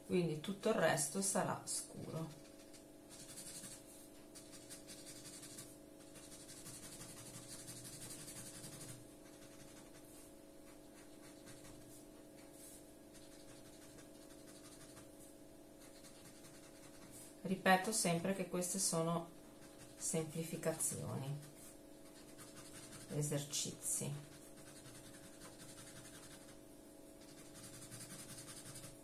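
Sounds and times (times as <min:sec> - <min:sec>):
pen scratching on paper: 0:02.0 - 0:15.2, 0:15.8 - 0:17.3, 0:19.6 - 0:26.6, 0:27.2 - 0:29.0.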